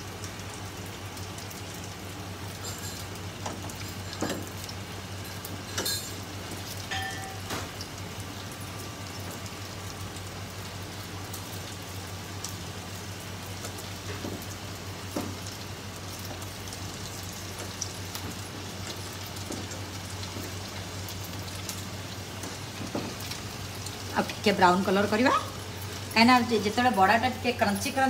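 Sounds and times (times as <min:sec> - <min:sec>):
oil crackling and popping: 0:00.0 - 0:26.6
fritters sizzling in hot oil: 0:00.0 - 0:28.0.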